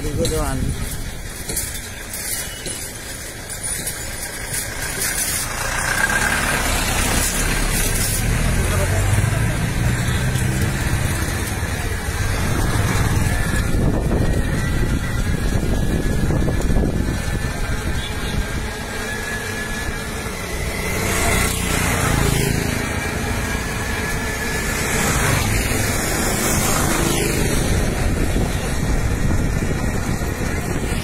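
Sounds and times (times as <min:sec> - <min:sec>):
small engines rumbling: 0:00.0 - 0:31.0.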